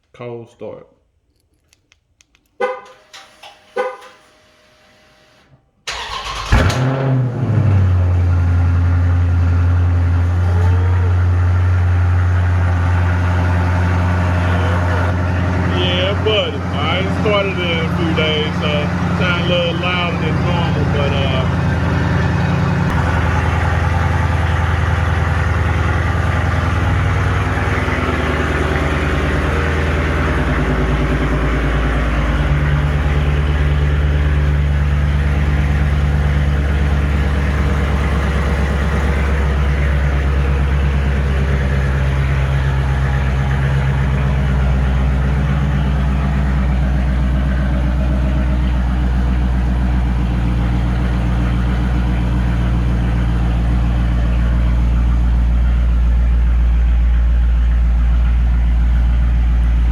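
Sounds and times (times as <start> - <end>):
car engine idling loudly: 5.9 - 59.9.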